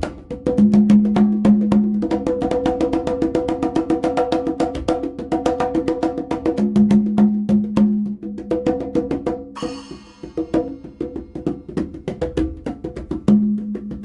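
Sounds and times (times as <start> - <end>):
congas played by hand: 0.0 - 14.0.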